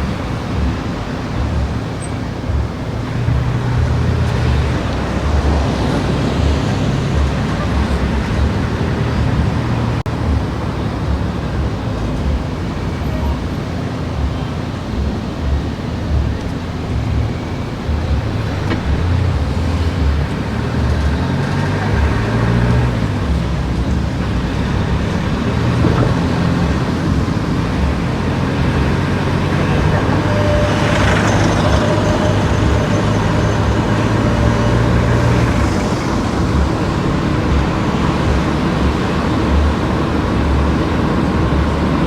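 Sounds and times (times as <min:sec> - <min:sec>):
car road noise: 0:00.0 - 0:42.0.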